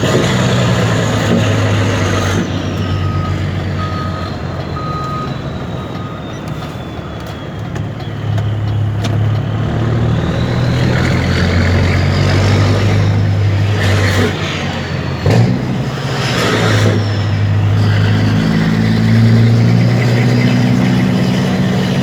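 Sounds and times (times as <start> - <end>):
diesel truck engine running: 0.0 - 22.0
reversing beeper: 0.0 - 22.0.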